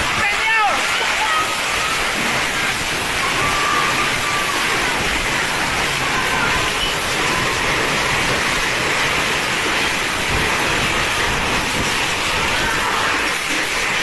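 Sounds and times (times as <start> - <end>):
strong wind rushing: 0.0 - 14.0.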